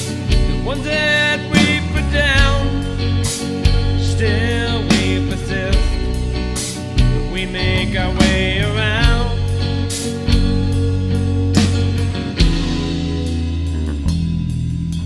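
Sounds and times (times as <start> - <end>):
country song with guitar: 0.0 - 15.0.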